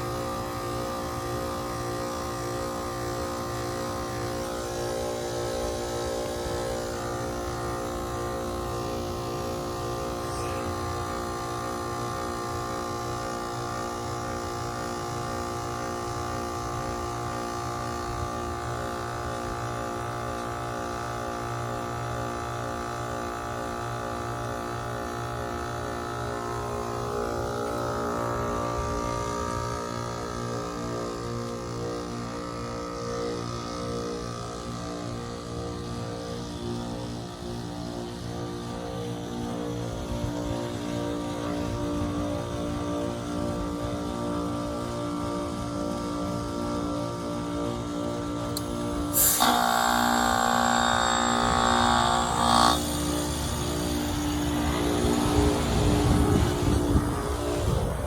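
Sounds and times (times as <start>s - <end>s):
heat pump humming: 0.0s - 58.0s.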